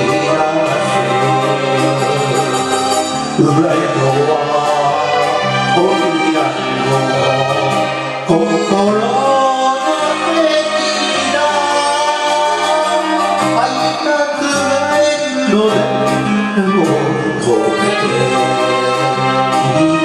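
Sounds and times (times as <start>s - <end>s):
man singing into a microphone: 0.0s - 20.0s
recorded instrumental backing music: 0.0s - 20.0s.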